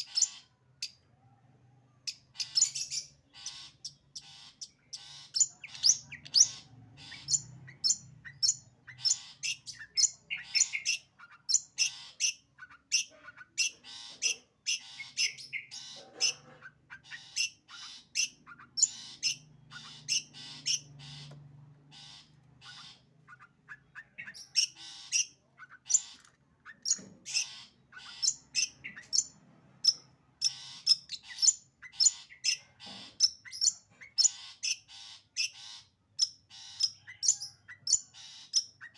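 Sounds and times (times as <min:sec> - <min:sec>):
shrike chirping and squawking: 0:00.0 - 0:01.0, 0:02.1 - 0:38.9.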